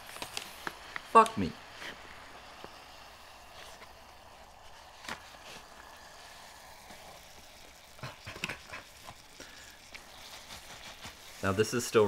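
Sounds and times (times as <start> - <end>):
faint fizzing hiss: 0.0 - 12.0.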